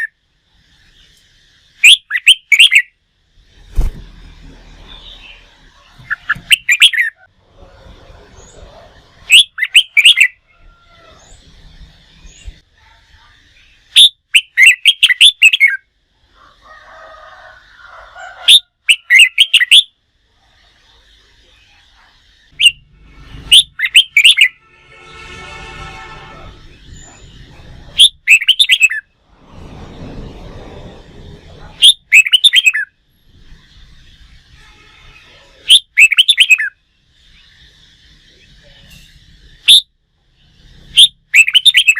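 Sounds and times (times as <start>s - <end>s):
bulbul chirping song: 0.0s - 3.7s, 4.8s - 7.4s, 8.0s - 16.4s, 18.4s - 25.7s, 26.4s - 29.2s, 31.7s - 41.9s.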